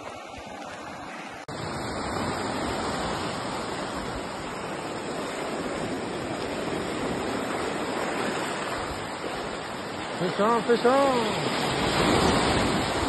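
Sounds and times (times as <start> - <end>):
water rushing against concrete: 0.0 - 13.0.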